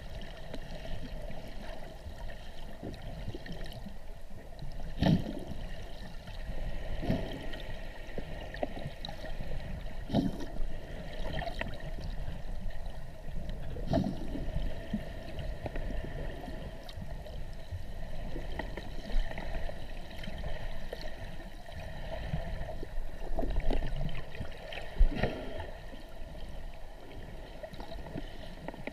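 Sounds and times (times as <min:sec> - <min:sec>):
muffled underwater rush of water: 0:00.0 - 0:28.9
fin kicks churning bubbles: 0:04.6 - 0:28.9.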